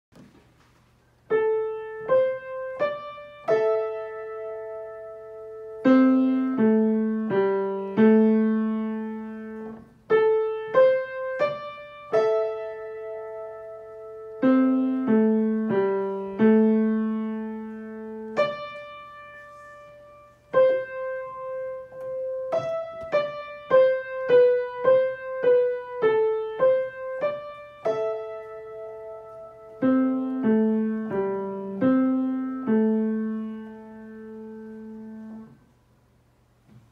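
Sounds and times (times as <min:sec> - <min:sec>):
piano playing slow simple piece: 0:00.9 - 0:36.9.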